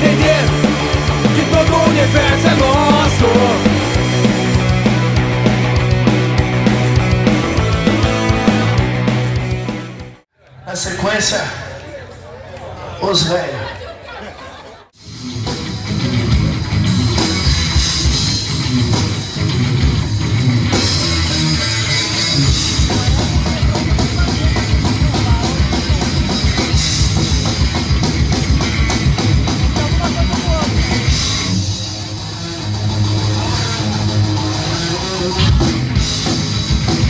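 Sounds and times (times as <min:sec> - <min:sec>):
electric guitars: 0:00.0 - 0:10.2, 0:15.0 - 0:37.0
drum kit playing: 0:00.0 - 0:10.3, 0:15.0 - 0:37.0.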